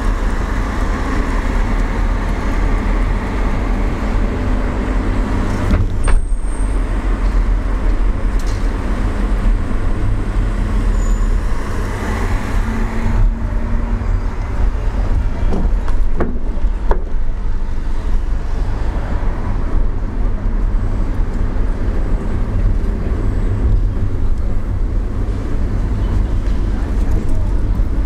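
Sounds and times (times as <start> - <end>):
car interior road rumble: 0.0 - 28.0.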